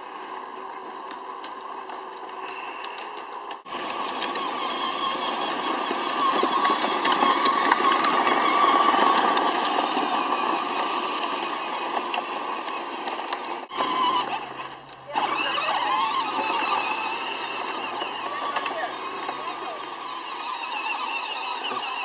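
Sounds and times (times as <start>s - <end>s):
toy tractor motor whining: 0.0s - 22.0s.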